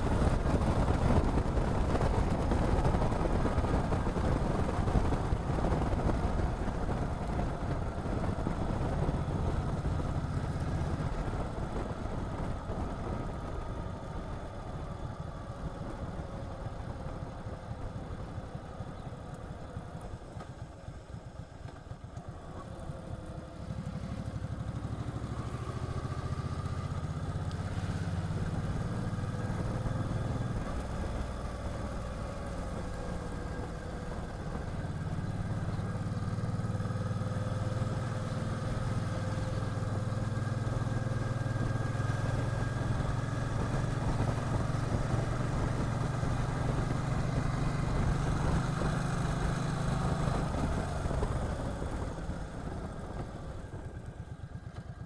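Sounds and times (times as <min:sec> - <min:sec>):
motorcycle engine pulling away: 0:00.0 - 0:55.0.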